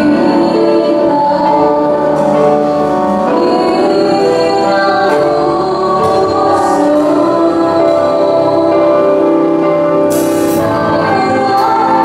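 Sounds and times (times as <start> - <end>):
girl singing into microphone: 0.0 - 12.0
instrumental accompaniment: 0.0 - 12.0.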